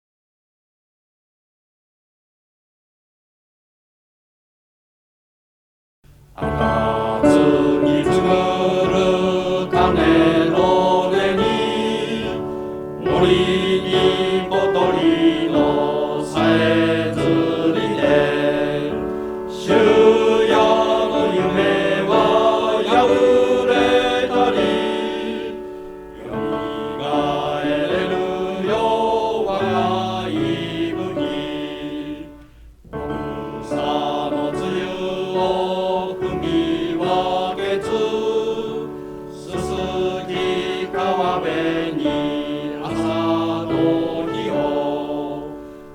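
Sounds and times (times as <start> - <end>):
group of voices singing: 6.4 - 45.9.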